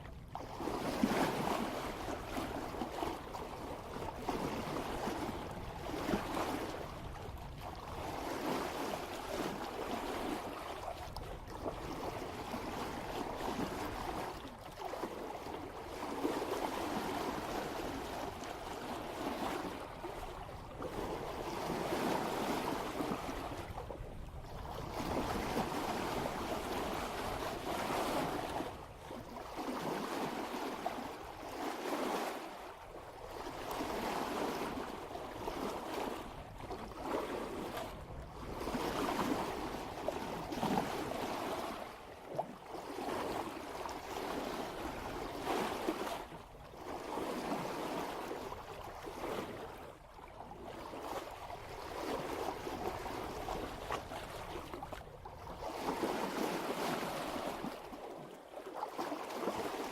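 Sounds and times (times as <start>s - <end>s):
water rushing along boat hull: 0.0s - 59.9s.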